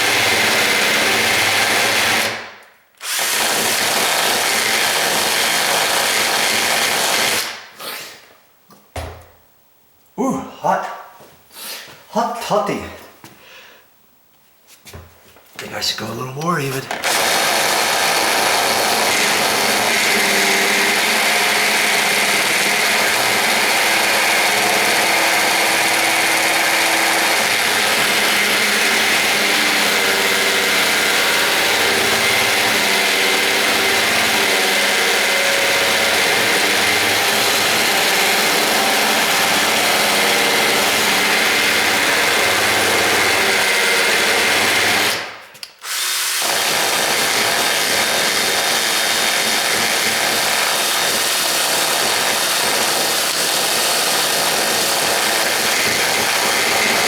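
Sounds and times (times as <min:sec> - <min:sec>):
electric drill running: 0:00.0 - 0:02.4, 0:03.0 - 0:07.5, 0:16.9 - 0:57.0.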